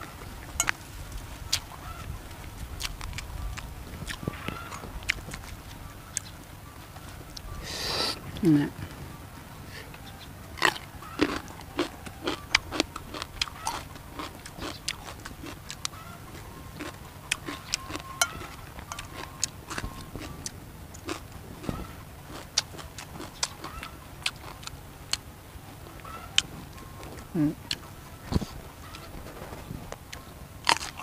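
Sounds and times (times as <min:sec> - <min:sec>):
chewing and crunching: 0:00.0 - 0:31.0.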